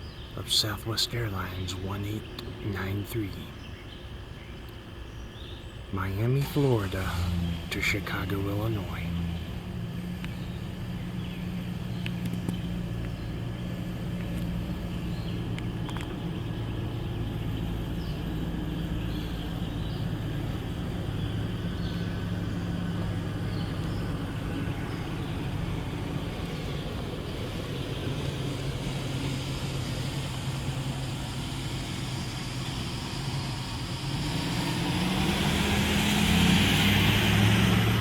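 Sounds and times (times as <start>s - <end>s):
jet engines passing: 5.9s - 38.0s.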